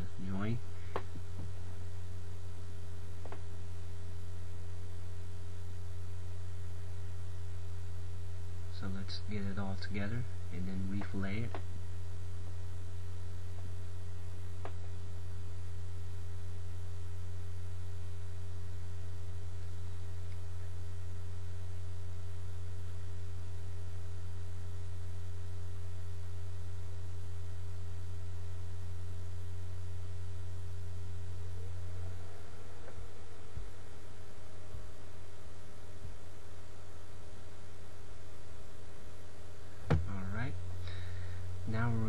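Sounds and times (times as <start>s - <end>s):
low electrical hum: 0.0s - 42.0s
microphone hiss: 0.0s - 42.0s.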